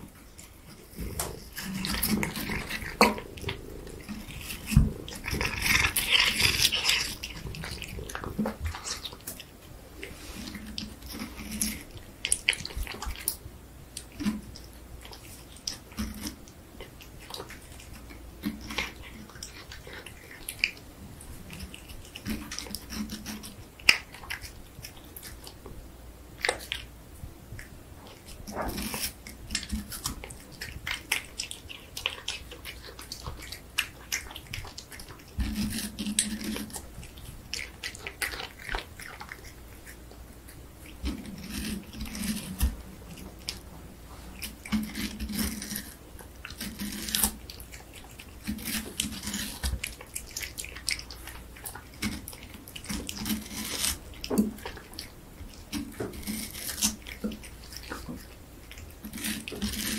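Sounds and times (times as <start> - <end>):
cat eating watermelon: 0.0 - 59.9.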